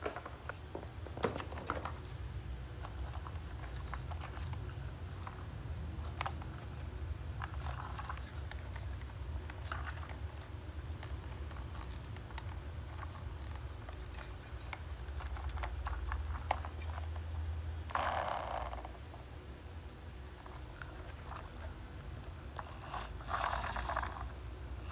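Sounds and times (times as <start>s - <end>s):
low steady hum: 0.0s - 24.9s.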